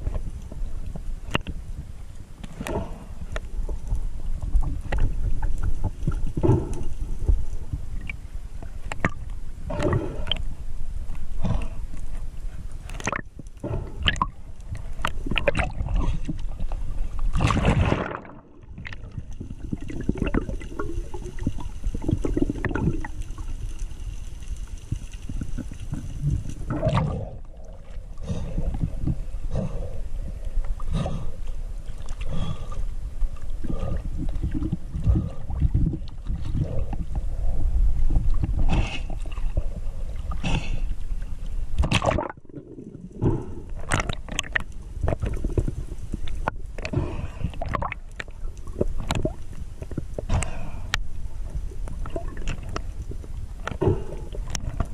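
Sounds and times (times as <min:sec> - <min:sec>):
steady low rumble: 0:00.0 - 0:17.4, 0:18.4 - 0:54.9
sea water sloshing and gurgling: 0:00.0 - 0:54.9.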